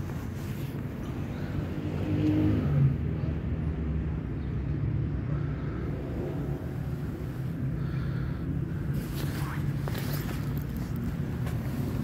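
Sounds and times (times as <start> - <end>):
car passing rumble: 0.0 - 12.0
traffic hum: 0.0 - 12.0.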